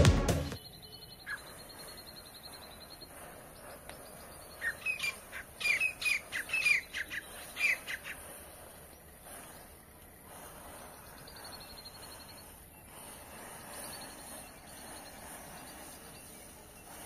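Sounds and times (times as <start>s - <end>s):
matchsticks hissing and fizzing: 1.3s - 17.0s.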